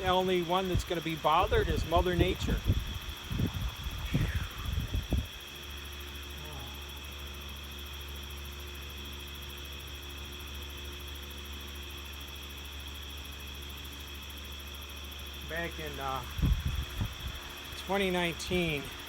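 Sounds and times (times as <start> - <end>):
electric fan humming: 0.0 - 19.0.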